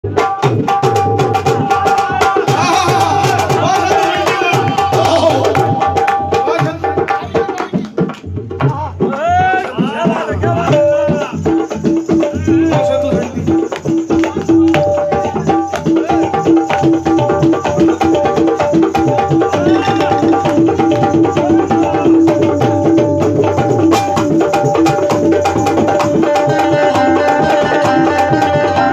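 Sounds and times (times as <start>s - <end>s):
fast drum beat: 0.0s - 28.9s.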